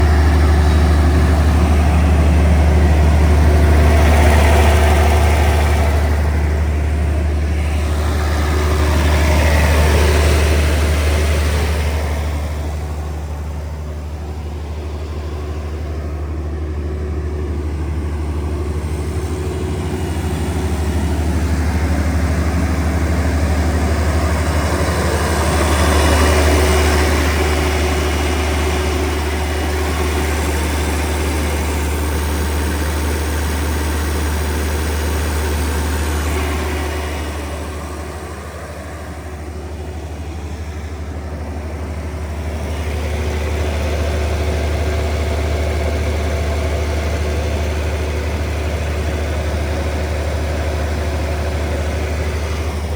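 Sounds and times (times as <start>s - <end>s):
diesel generator humming: 0.0s - 52.9s.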